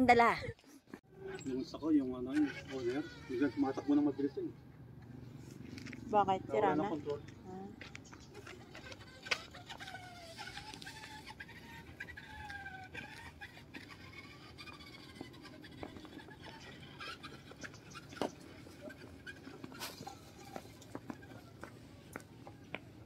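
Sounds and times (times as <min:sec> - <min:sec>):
faint gliding bird-like calls: 0:01.1 - 0:23.0.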